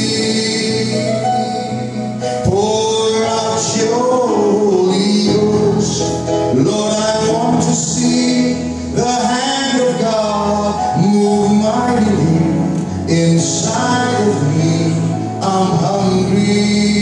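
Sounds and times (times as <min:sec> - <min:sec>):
keyboard accompaniment: 0:00.0 - 0:17.0
man singing into a microphone: 0:00.0 - 0:17.0.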